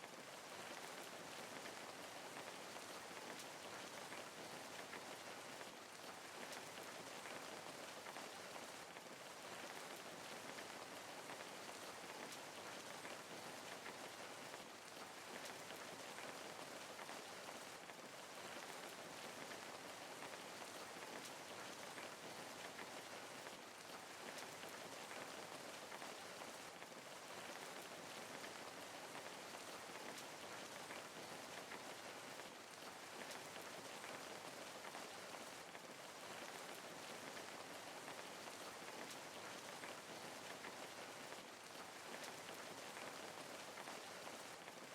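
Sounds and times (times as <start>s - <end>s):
steady rain on a surface: 0.0s - 44.9s.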